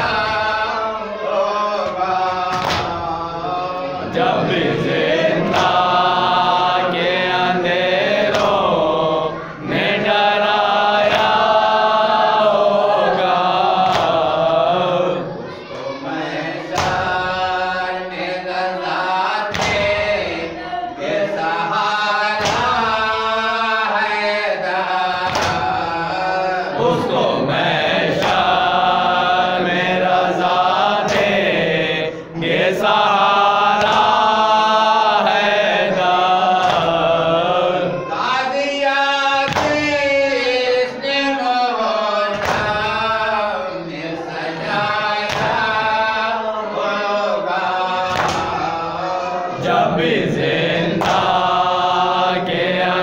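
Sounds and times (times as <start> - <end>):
men chanting in unison: 0.0 - 53.0.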